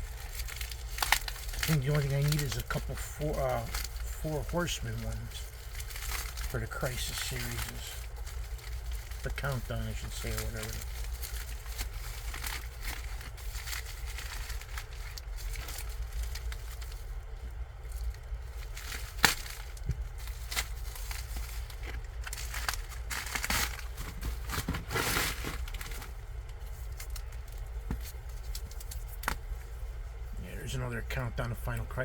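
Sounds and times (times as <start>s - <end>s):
packaging crinkling and rustling: 0.0s - 30.3s.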